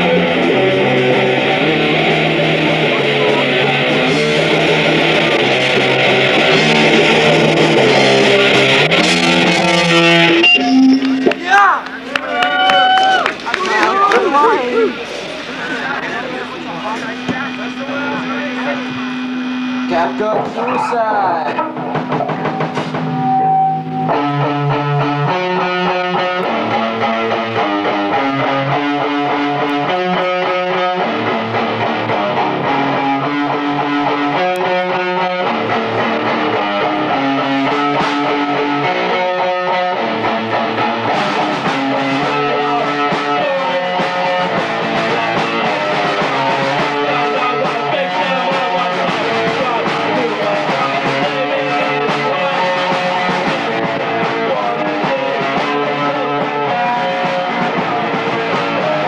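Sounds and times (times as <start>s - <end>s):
punk rock band playing: 0.0s - 59.0s.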